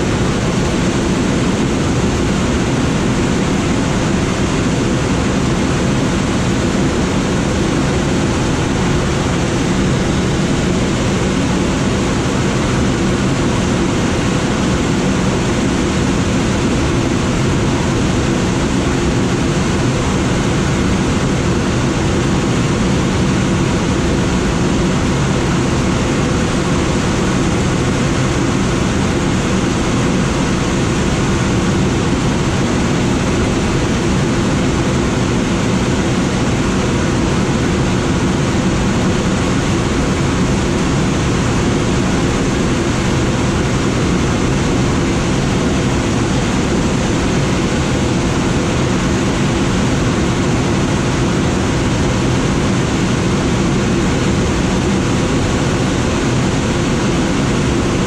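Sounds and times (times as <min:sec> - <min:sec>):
low engine drone: 0:00.0 - 0:58.0
rush of air over cockpit: 0:00.0 - 0:58.0.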